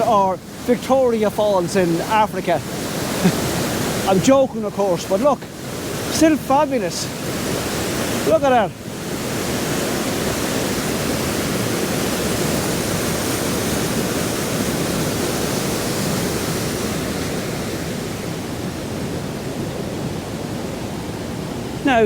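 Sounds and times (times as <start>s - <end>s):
waterfall rushing into pool: 0.0s - 22.0s.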